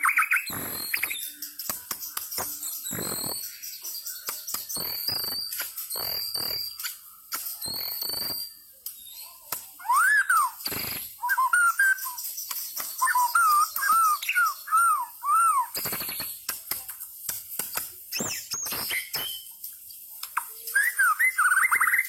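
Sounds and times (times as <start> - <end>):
bird whistled song: 0.0 - 16.5, 17.6 - 19.6, 20.2 - 22.0.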